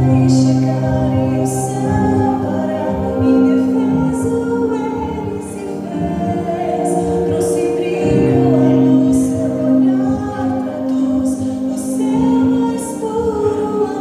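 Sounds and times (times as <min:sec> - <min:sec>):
vocal group singing in harmony: 0:00.0 - 0:14.0.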